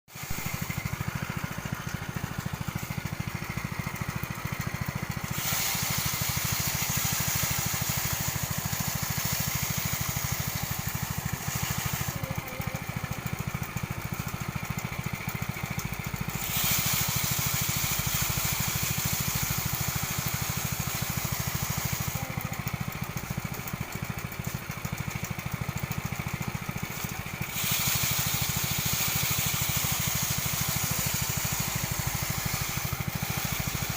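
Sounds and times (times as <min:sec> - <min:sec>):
loud hissing rush of threshing: 0:00.1 - 0:14.8, 0:16.0 - 0:25.0, 0:25.9 - 0:33.9
rice thresher engine running: 0:00.1 - 0:33.9.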